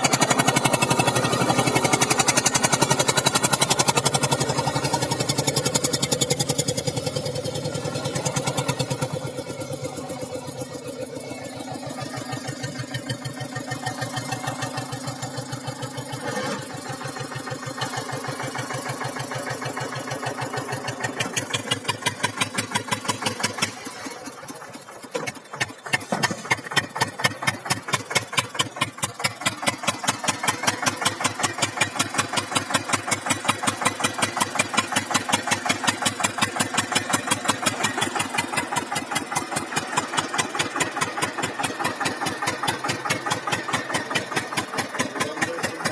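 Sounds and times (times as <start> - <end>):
tractor diesel engine chugging: 0.0 - 45.9.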